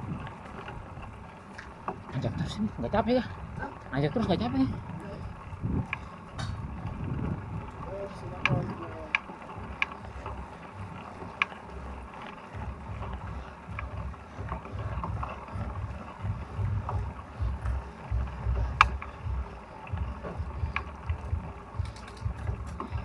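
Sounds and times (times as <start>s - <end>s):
bike clicks and rattles: 0.0s - 23.0s
wind buffeting microphone: 0.0s - 23.0s.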